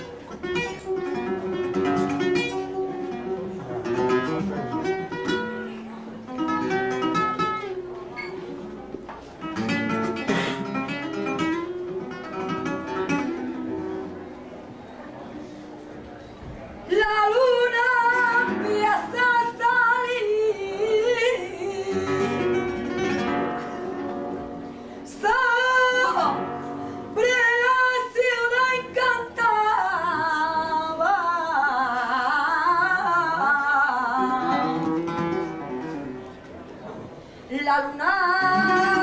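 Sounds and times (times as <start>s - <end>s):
woman singing flamenco: 0.0s - 8.7s, 9.4s - 13.8s, 16.9s - 36.0s, 37.5s - 39.0s
flamenco guitar: 0.0s - 39.0s.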